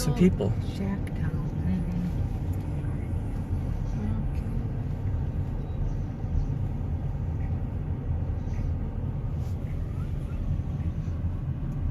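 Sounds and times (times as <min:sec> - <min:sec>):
car driving rumble from inside: 0:00.0 - 0:11.9.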